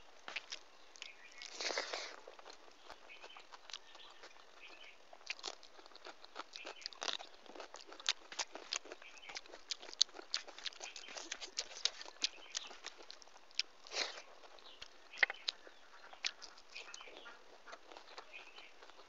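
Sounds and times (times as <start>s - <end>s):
person chewing and crunching: 0.2s - 19.0s.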